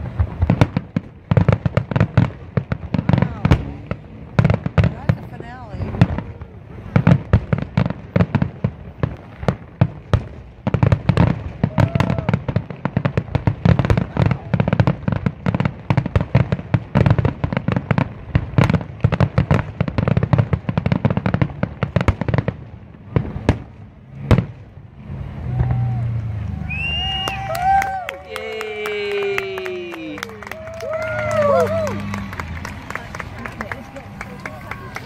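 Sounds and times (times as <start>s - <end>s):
fireworks bursts and crackle: 0.0s - 35.0s
loud fireworks booms: 0.0s - 35.0s.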